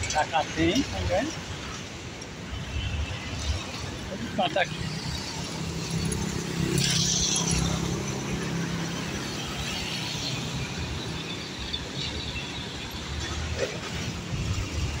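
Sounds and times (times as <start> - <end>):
road traffic engine hum: 0.0 - 15.0.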